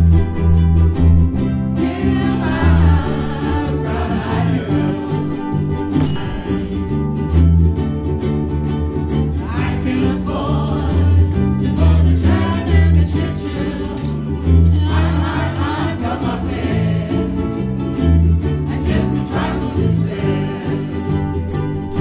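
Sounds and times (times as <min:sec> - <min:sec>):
bass line: 0:00.0 - 0:22.0
ukuleles strumming: 0:00.0 - 0:22.0
group singing together: 0:01.6 - 0:07.2, 0:09.3 - 0:22.0.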